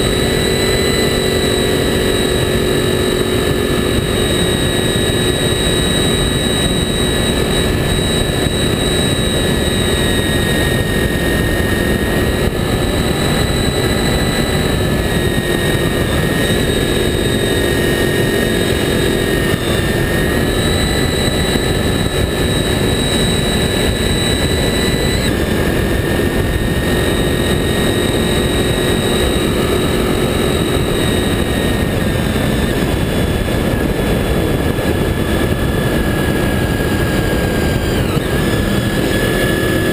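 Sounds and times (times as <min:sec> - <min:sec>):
motorcycle engine running: 0:00.0 - 0:39.9
road noise: 0:00.0 - 0:39.9
wind rush: 0:00.0 - 0:39.9.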